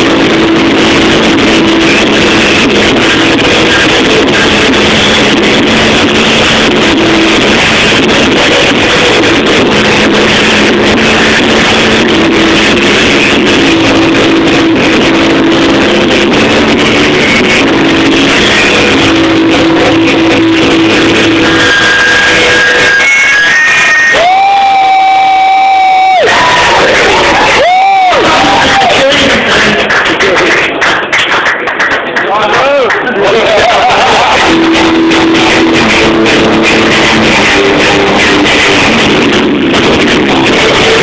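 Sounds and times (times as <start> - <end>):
electric guitar sustained notes: 0.0 - 30.7, 33.3 - 41.0
rock band playing live: 0.0 - 30.8, 32.9 - 41.0.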